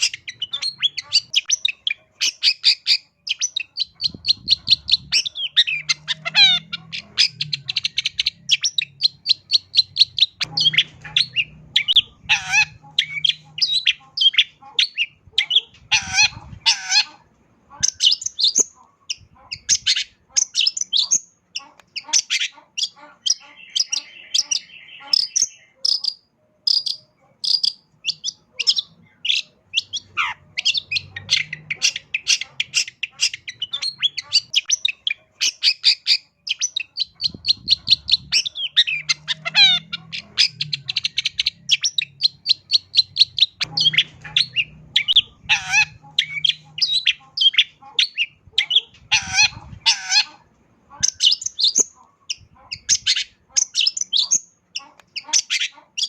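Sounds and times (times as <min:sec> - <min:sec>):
bird singing chattering song: 0:00.0 - 0:56.0.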